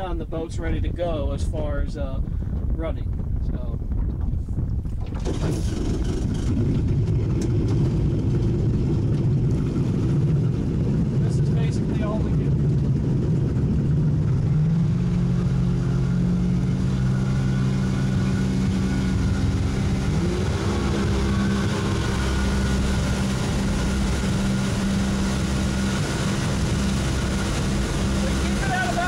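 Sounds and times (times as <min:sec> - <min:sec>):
water noise: 0:00.0 - 0:29.0
wind noise: 0:00.0 - 0:29.0
outboard boat engine running: 0:02.3 - 0:29.0.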